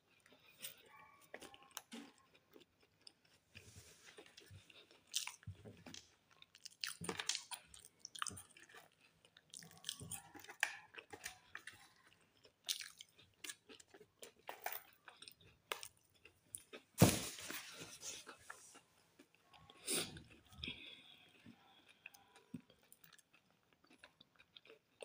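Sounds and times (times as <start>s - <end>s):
chewing crunchy toast: 0.0s - 17.0s, 17.8s - 25.0s.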